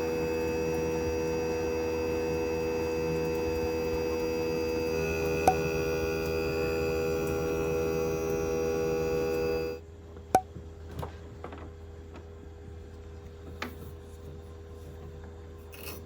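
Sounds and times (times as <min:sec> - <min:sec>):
air conditioner humming: 0:00.0 - 0:15.6.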